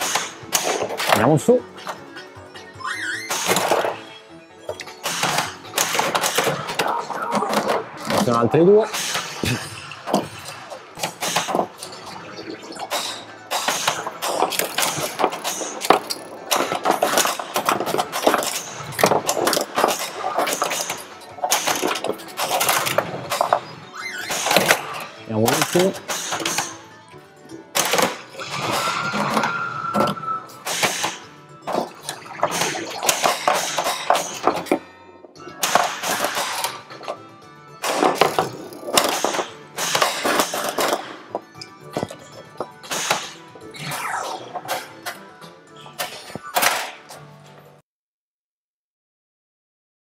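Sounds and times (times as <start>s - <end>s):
pinball flippers and bumpers clacking: 0.0s - 2.4s, 3.2s - 43.6s, 44.4s - 47.4s
pinball game music and effects: 0.0s - 47.8s.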